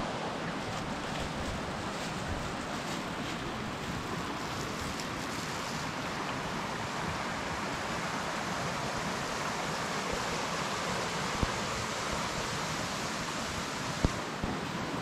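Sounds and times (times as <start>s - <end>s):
forest stream rushing: 0.0s - 15.0s.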